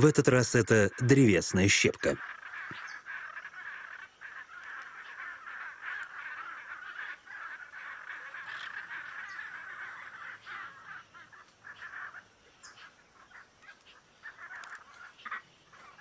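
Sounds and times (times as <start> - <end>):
macaw calling: 0.0 - 16.0.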